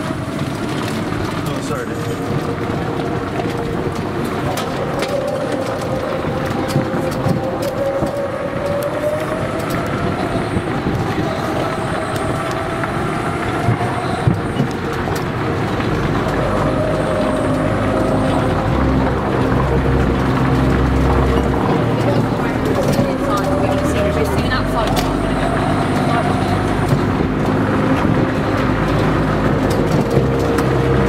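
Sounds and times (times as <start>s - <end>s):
golf cart driving: 0.0s - 31.0s.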